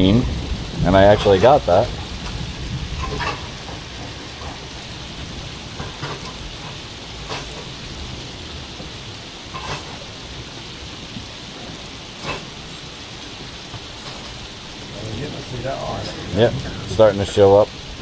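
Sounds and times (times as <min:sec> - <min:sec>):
rain hissing on a boat: 0:00.0 - 0:18.0
sharp raindrop hits: 0:00.0 - 0:18.0.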